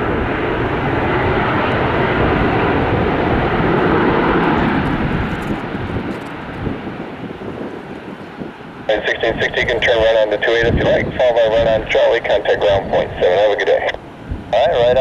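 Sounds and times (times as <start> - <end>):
jet engines roaring past: 0.0 - 15.0.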